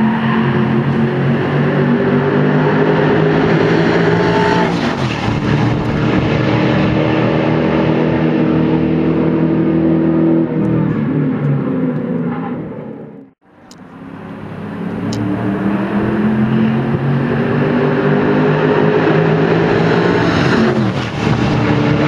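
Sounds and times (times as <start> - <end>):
race car engines passing by: 0.0 - 22.0.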